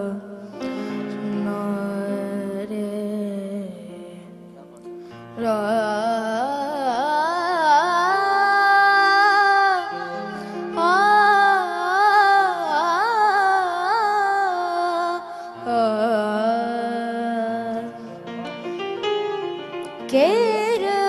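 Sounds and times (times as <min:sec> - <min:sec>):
boy singing into a microphone: 0:00.0 - 0:18.2, 0:20.0 - 0:21.0.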